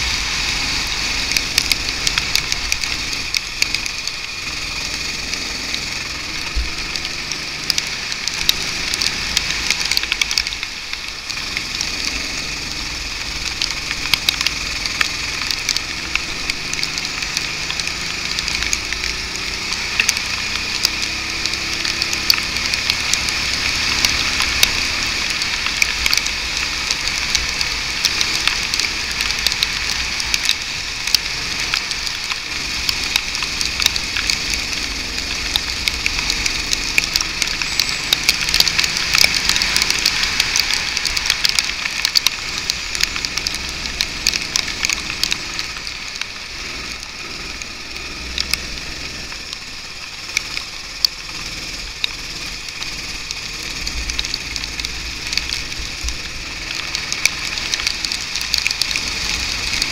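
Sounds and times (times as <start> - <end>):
muffled go-kart engine: 0.0 - 59.9.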